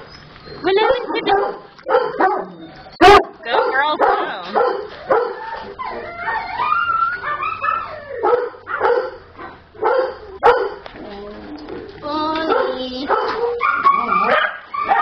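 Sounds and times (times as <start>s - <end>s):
small dogs barking and yipping: 0.0s - 15.0s.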